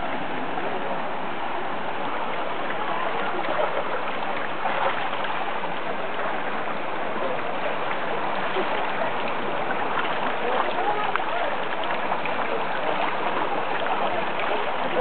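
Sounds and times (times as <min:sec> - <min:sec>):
waterfall pouring into pool: 0:00.6 - 0:15.0.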